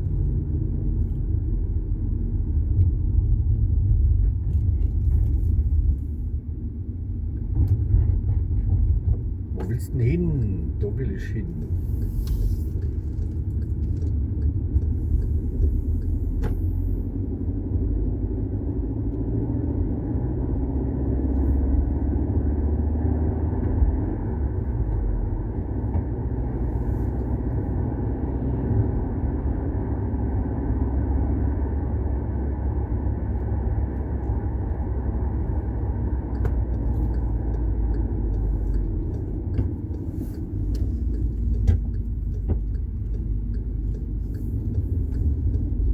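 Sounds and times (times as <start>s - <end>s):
car engine rumble: 0.0s - 45.9s
road noise: 0.0s - 45.9s.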